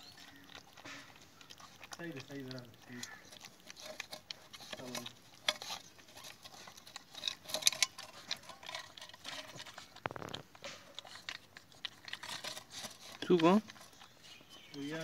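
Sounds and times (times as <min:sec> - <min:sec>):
puppy lapping from metal bowl: 0:00.0 - 0:15.0.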